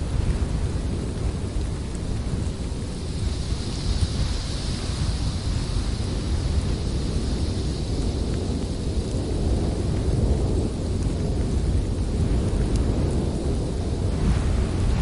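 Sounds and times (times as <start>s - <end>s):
blizzard wind blowing hard: 0.0s - 15.0s.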